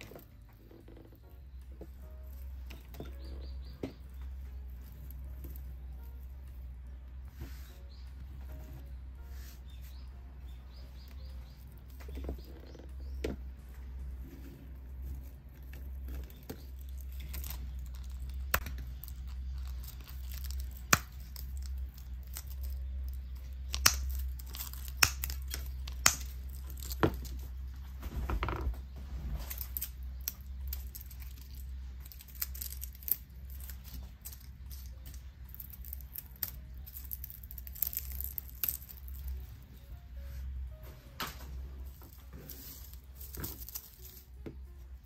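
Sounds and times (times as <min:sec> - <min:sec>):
rustling and crackling twigs: 0:00.0 - 0:39.8, 0:41.3 - 0:45.0.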